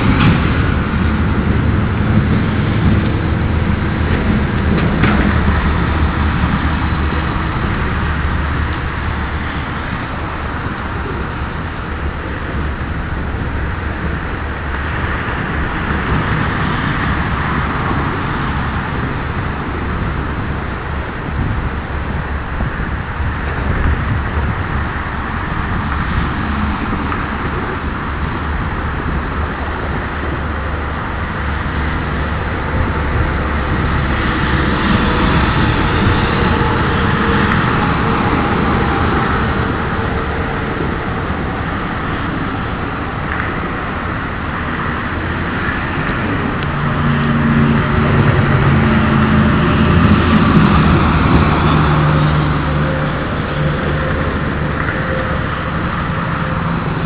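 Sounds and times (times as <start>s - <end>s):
airboat engine and propeller: 0.0s - 57.0s.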